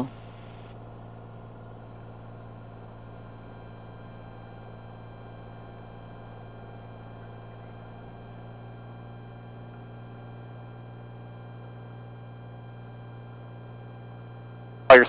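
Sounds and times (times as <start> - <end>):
faint high whine: 0.0 - 0.9, 1.6 - 15.0
airplane engine and propeller drone: 0.0 - 15.0.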